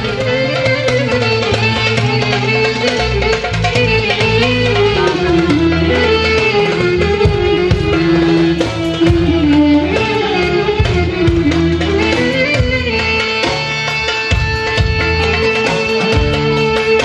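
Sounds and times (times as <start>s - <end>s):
drums with steady beat: 0.0s - 17.0s
electric keyboard: 0.0s - 17.0s
guitar: 0.0s - 17.0s
sliding lead melody: 0.0s - 17.0s.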